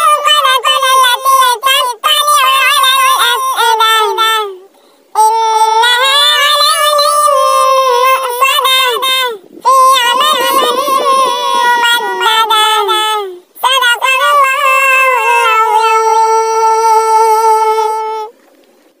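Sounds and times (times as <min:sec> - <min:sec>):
high-pitched voice chanting: 0:00.0 - 0:18.3.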